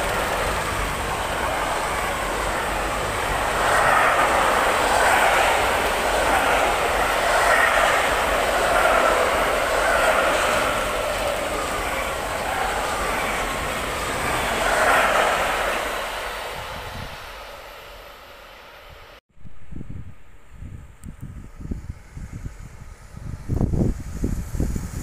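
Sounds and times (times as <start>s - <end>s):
freight train wheels rumbling on rail: 0.0s - 19.2s, 21.0s - 25.0s.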